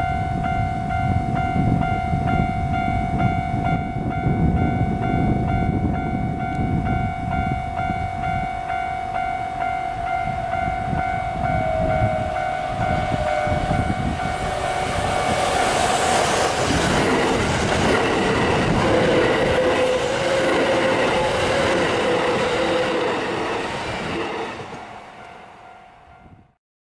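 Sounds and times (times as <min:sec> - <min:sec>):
steady high pulsing tone: 0:00.0 - 0:26.3
electric train passing: 0:00.0 - 0:26.6.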